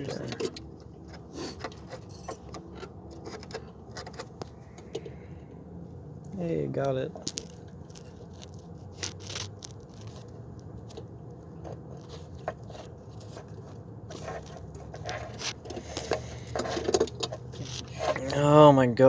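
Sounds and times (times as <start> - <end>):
metal clicks and scrapes: 0.0 - 5.2, 7.1 - 18.4.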